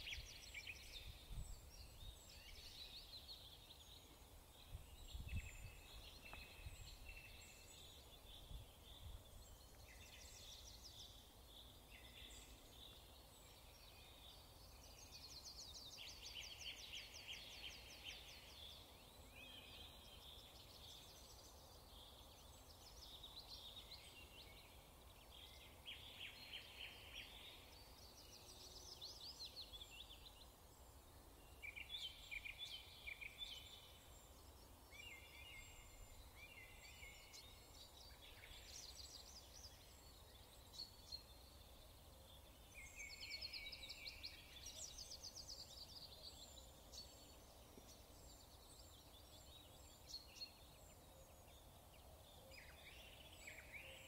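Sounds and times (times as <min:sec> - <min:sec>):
faint birdsong chirps and trills: 0:00.0 - 0:54.0.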